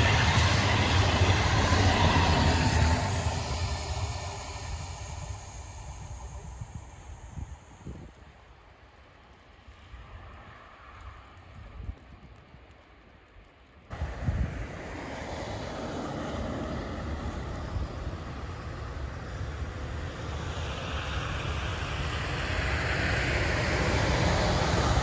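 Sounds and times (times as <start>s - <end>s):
tyres hissing on road: 0.0s - 11.2s, 13.9s - 25.0s
engine rumble: 0.0s - 25.0s
wind rumble on microphone: 0.0s - 25.0s.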